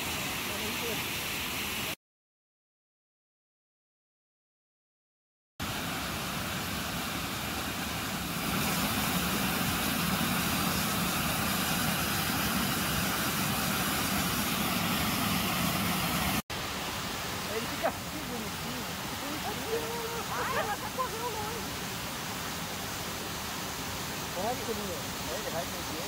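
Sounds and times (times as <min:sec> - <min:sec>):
flowing stream water: 0:00.0 - 0:02.0, 0:05.6 - 0:26.0.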